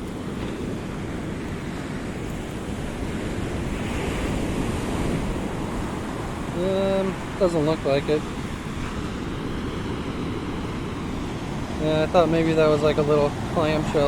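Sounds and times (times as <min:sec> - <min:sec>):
surf on pebbly beach: 0:00.0 - 0:14.0
wind on microphone: 0:00.0 - 0:14.0.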